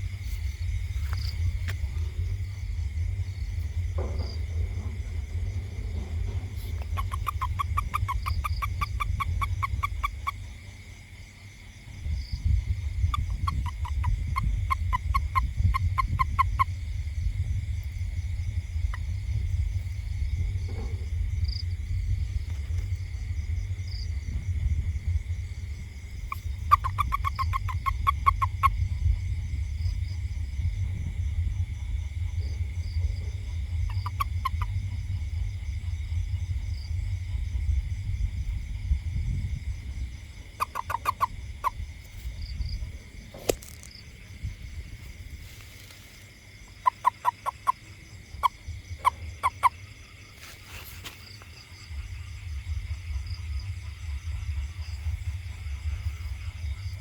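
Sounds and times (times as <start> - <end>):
low rumble: 0.0 - 46.8, 47.8 - 57.0
toad calling: 0.0 - 57.0.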